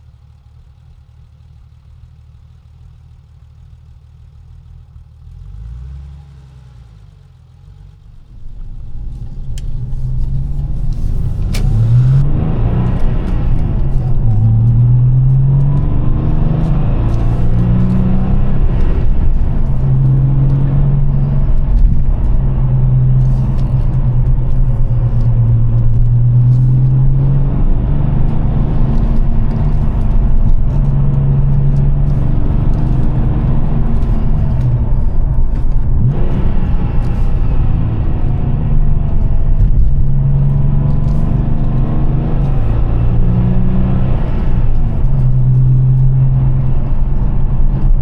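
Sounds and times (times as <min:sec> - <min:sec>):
car engine revving: 0:05.3 - 0:48.0.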